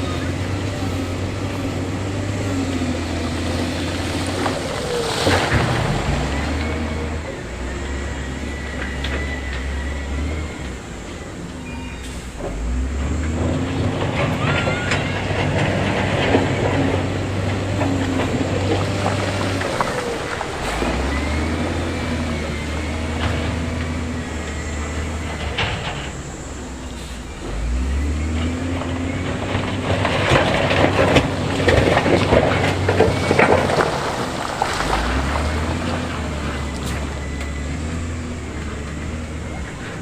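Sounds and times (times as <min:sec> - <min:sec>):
diesel engine under load: 0:00.0 - 0:40.0.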